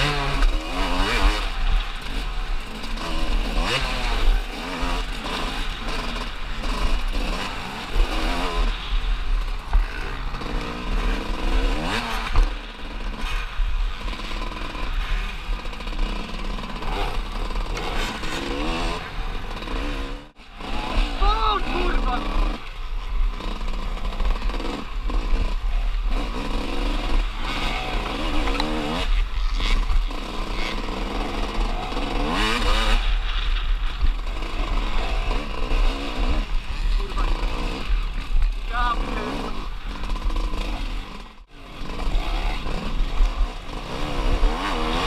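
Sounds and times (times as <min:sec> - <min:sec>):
motorcycle engine revving: 0:00.0 - 0:45.0
motorcycle rattling over rough ground: 0:00.0 - 0:45.0.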